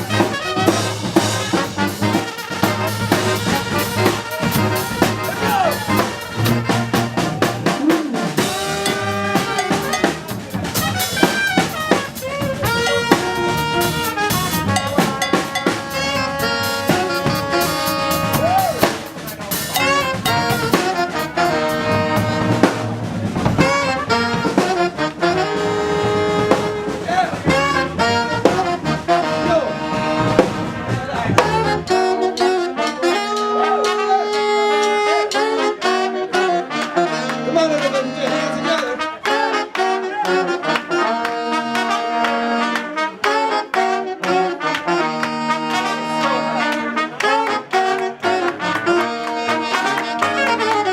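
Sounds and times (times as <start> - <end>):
drum kit: 0.0 - 50.9
funk brass band playing: 0.0 - 50.9.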